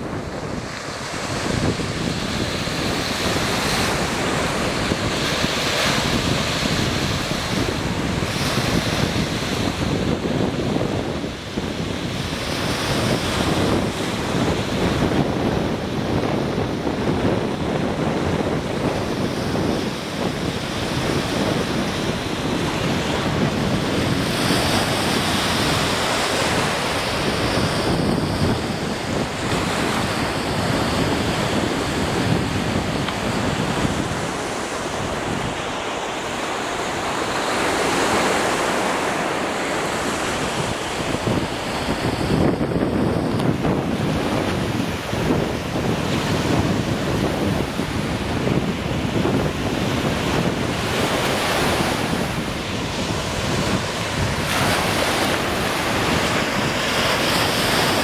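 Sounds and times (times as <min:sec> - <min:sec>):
waves washing onto shore: 0:00.0 - 0:58.0
wind buffeting microphone: 0:00.0 - 0:58.0.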